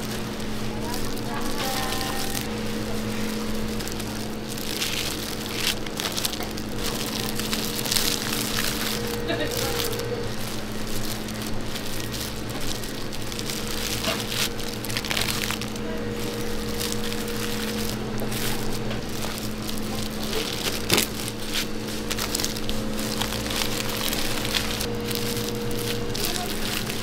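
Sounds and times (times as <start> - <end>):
gloves and seaweed crackling: 0.0 - 27.0
steady low hum: 0.0 - 27.0.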